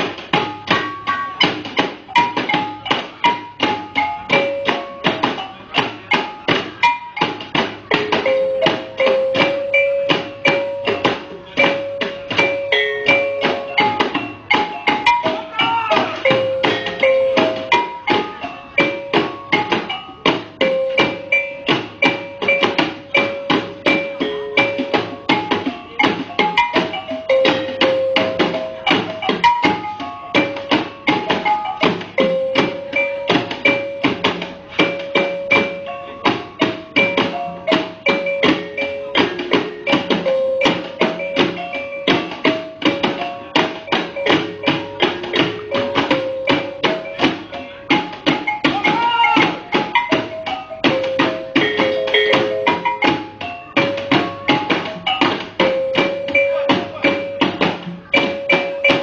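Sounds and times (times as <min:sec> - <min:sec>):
fast percussion beat: 0:00.0 - 0:59.0
stepping melody: 0:00.0 - 0:59.0.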